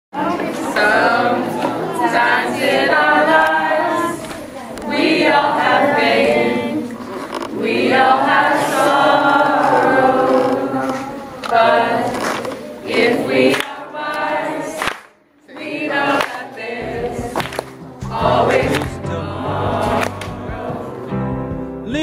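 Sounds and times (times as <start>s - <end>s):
group singing a cappella: 0.2s - 21.4s.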